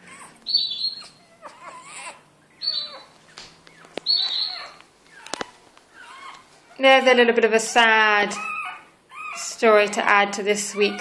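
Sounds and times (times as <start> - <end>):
puppies whimpering and squealing: 0.0 - 11.0.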